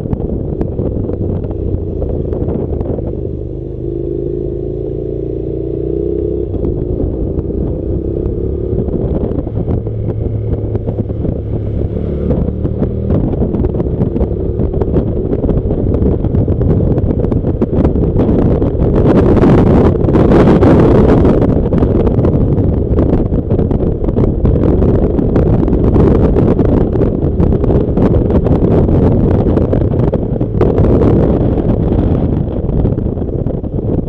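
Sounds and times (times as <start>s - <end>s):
motorcycle engine running: 0.0s - 34.0s
wind buffeting microphone: 0.0s - 34.0s.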